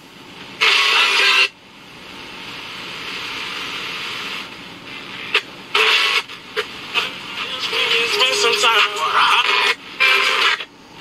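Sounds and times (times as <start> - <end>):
radio static hiss: 0.4 - 11.0
snatches of radio station audio: 0.5 - 1.6, 2.4 - 11.0.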